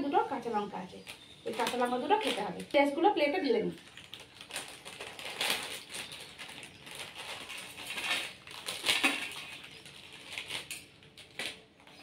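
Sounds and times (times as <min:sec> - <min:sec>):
foil chip packet tearing and crinkling: 0:01.0 - 0:02.8, 0:03.6 - 0:12.0.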